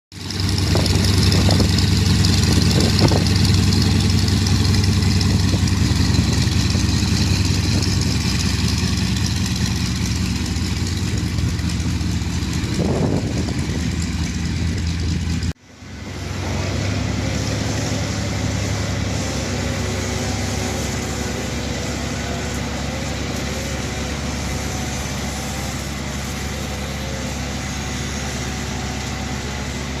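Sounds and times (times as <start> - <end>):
radial aircraft engine running: 0.1 - 30.0.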